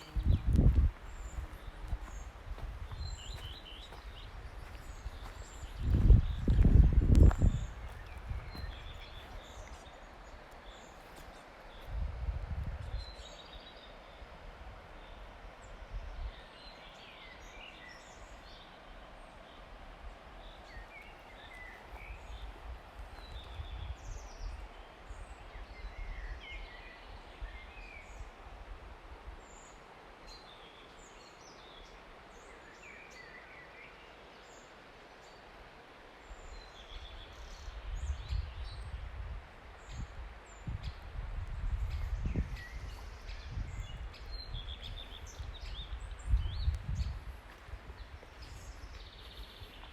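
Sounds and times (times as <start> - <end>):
small songbirds chirping: 0.0 - 28.4, 29.4 - 35.6, 36.2 - 49.9
faint steady hiss: 0.0 - 49.9.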